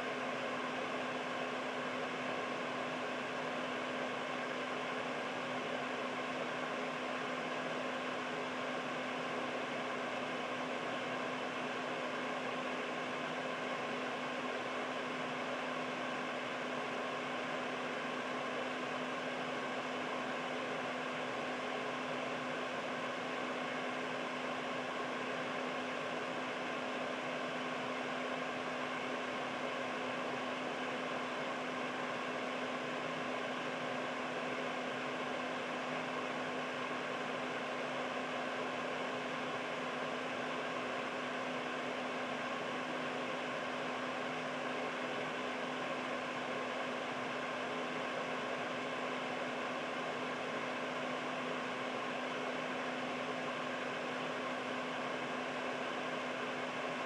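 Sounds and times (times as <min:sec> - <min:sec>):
air purifier fan rushing: 0:00.0 - 0:57.0.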